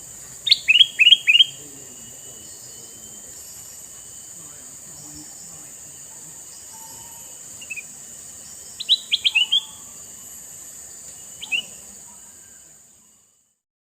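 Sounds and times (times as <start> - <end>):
bird chirping: 0.0 - 13.6
steady high hiss: 0.0 - 13.6.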